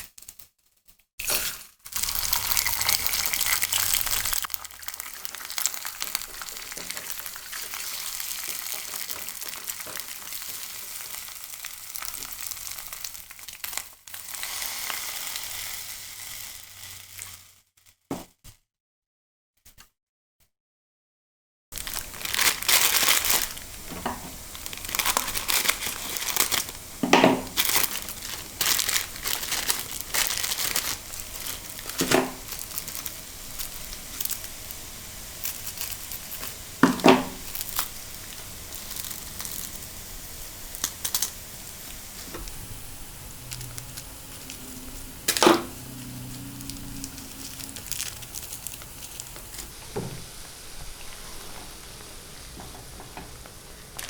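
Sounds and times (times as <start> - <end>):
plastic packaging crinkling: 1.2 - 17.4, 21.8 - 54.0.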